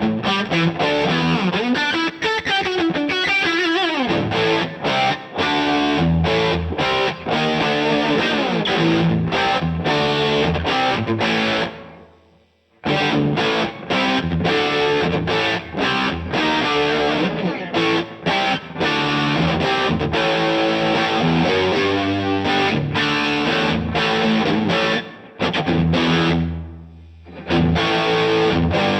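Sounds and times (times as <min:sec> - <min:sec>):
distorted electric guitar riff: 0:00.0 - 0:28.9.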